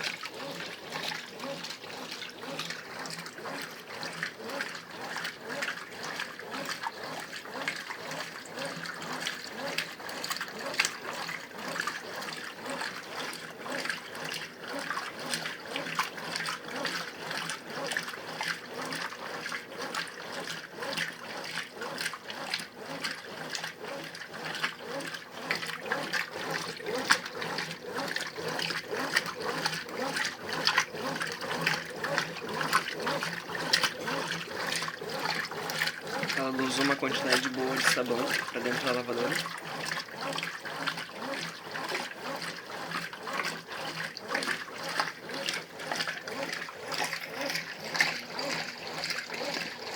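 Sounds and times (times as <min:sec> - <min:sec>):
washing machine sloshing water: 0:00.0 - 0:49.9.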